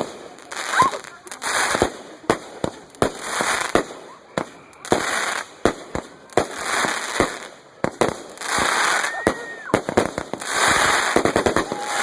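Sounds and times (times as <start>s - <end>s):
fireworks bangs: 0.0s - 12.0s
hissing crackle of fireworks: 0.0s - 12.0s.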